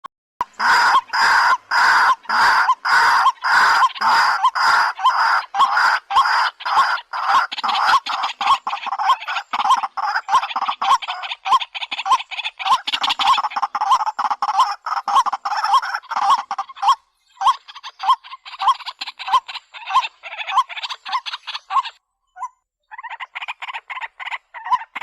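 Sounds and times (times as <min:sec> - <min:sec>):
bird's harsh call: 0:00.4 - 0:25.0.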